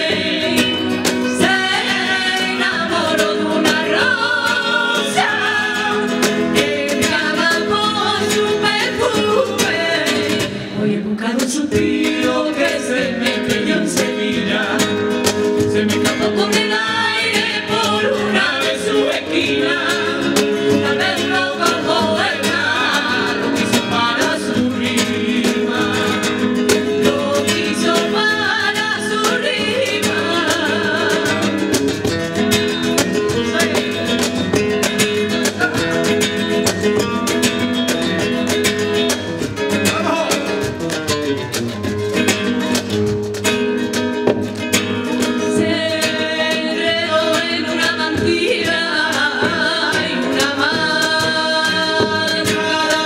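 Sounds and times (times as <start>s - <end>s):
women singing: 0.0s - 36.7s, 45.2s - 53.0s
acoustic guitar: 0.0s - 53.0s.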